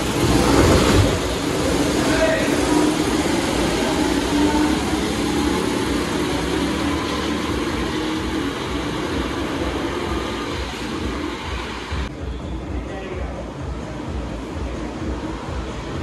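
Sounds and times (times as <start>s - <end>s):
go-kart engine drone: 0.0s - 16.0s
rushing noise: 0.0s - 16.0s.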